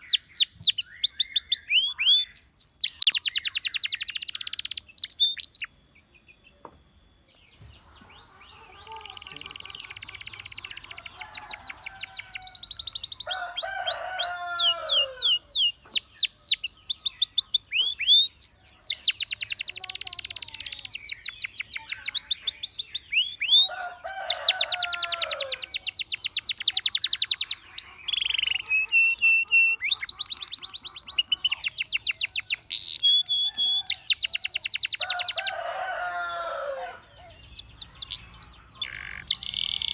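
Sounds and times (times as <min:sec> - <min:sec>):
canary trilling and whistling: 0:00.0 - 0:05.9, 0:07.7 - 0:39.9.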